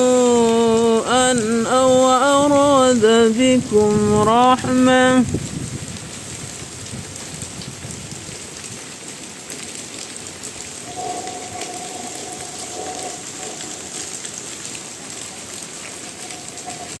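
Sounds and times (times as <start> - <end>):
rain falling on a surface: 0.0 - 17.0.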